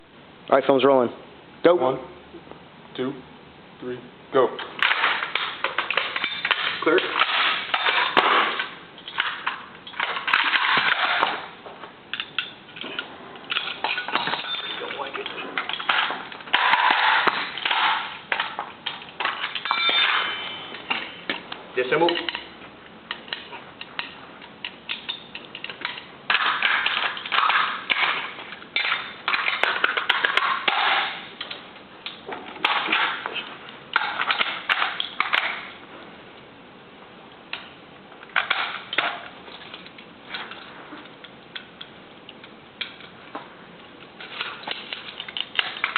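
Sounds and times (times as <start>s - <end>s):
gun metal parts clacking: 4.8s - 11.5s, 12.1s - 35.8s, 37.5s - 43.1s, 44.2s - 45.9s.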